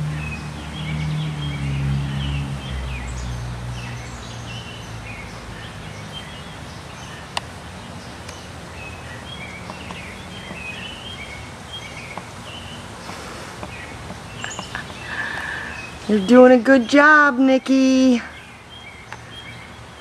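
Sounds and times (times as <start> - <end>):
outdoor noise: 0.0 - 20.0
small birds chirping: 0.0 - 20.0.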